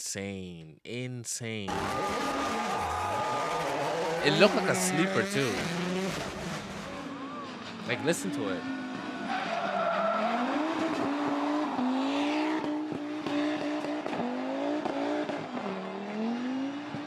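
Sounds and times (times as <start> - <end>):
rally car engine revving: 1.7 - 17.0.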